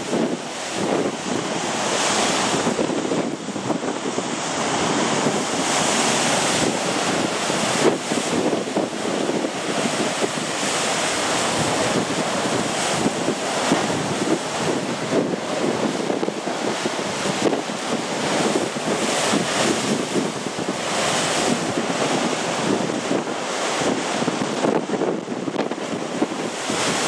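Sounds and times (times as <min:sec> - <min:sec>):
surf breaking against rocks: 0:00.0 - 0:27.0
wind on microphone: 0:00.0 - 0:27.0.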